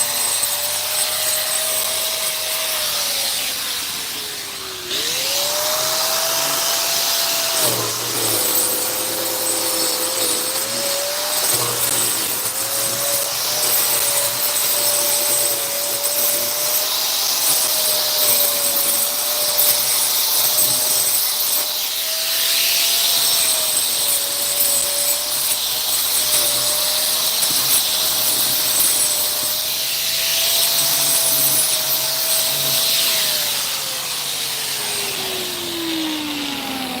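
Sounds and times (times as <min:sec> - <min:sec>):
small electric motor whining: 0:00.0 - 0:37.0.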